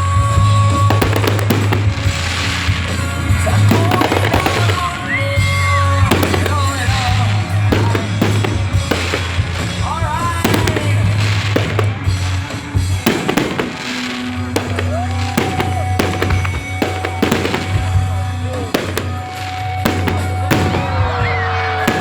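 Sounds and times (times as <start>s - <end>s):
fireworks bursting: 0.0s - 22.0s
music playing: 0.0s - 22.0s.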